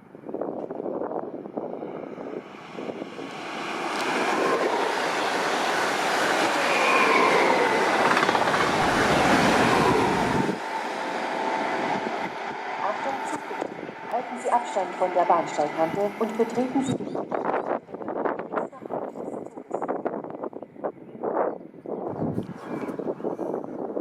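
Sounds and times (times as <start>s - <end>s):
train running on tracks: 0.0s - 22.1s.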